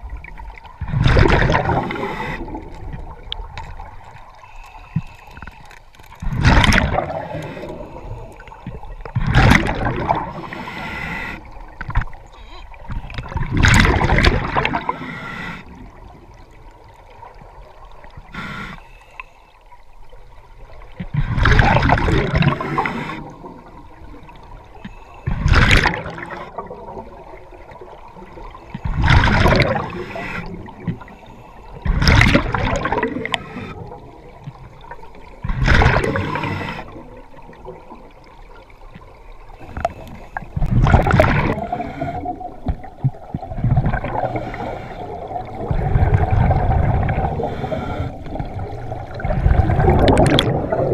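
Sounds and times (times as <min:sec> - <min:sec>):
bubbles gurgling underwater: 0:00.0 - 0:04.4, 0:06.2 - 0:10.6, 0:12.8 - 0:15.0, 0:20.5 - 0:31.1, 0:31.7 - 0:50.9.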